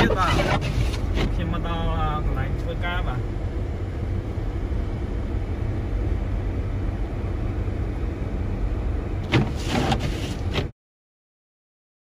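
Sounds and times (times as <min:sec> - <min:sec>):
car engine rumble inside cabin: 0:00.0 - 0:10.7.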